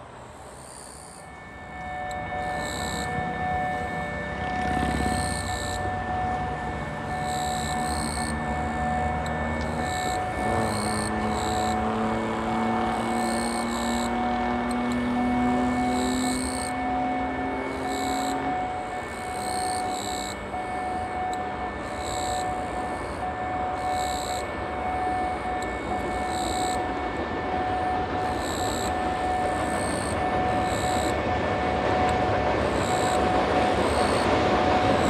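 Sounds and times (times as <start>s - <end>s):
thin steady whine: 0.0s - 35.0s
train rumble on steel bridge: 0.0s - 35.0s.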